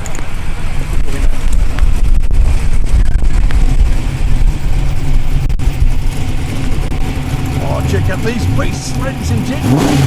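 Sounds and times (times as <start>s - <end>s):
muscle car engines rumbling: 0.0s - 10.0s.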